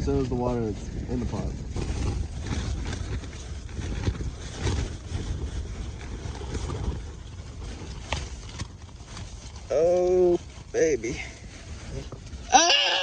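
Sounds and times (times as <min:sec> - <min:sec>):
camp stove burner rumbling: 0:00.0 - 0:13.0.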